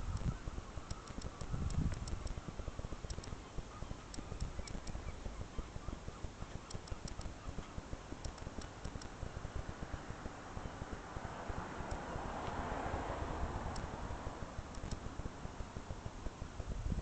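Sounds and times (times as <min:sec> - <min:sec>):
light high ticks: 0:00.0 - 0:17.0
wind rumbling on microphone: 0:00.0 - 0:17.0.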